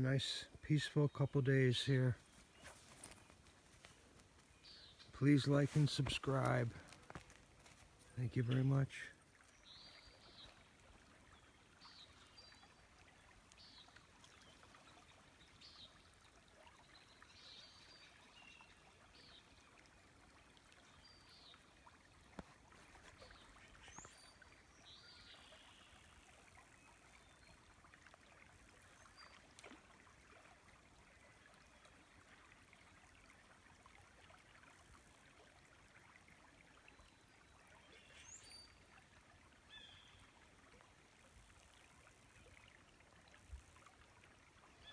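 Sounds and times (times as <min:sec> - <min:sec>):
faint flowing river: 0:00.0 - 0:44.9.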